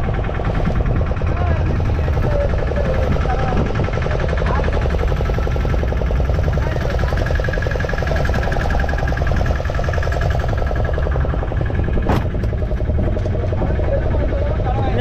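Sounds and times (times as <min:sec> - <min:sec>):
boat engine throbbing: 0:00.0 - 0:15.0.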